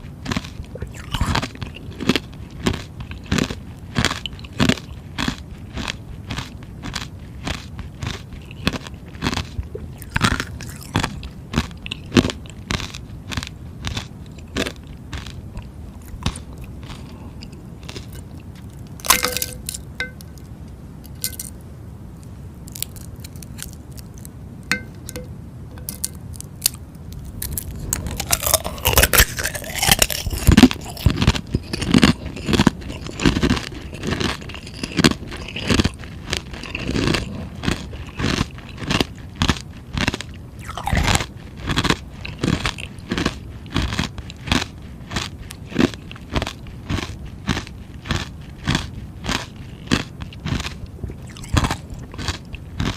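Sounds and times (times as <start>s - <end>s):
crunching frozen food: 0.0s - 20.4s, 22.6s - 25.2s, 25.9s - 52.9s.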